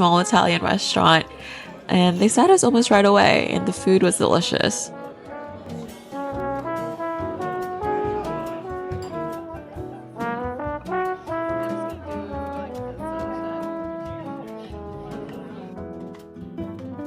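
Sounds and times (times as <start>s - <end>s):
jazzy brass-like instrumental music: 0.0s - 17.0s.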